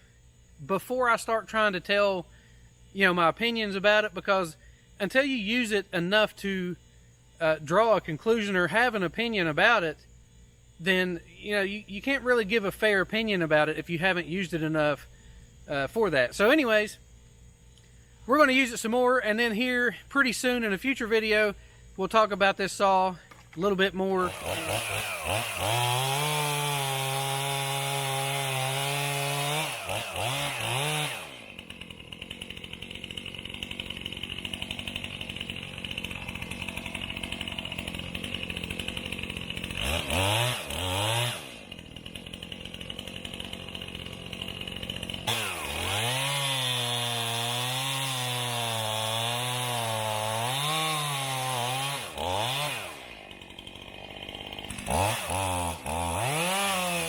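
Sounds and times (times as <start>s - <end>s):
chainsaw cutting wood: 0.3s - 19.7s, 22.9s - 57.0s.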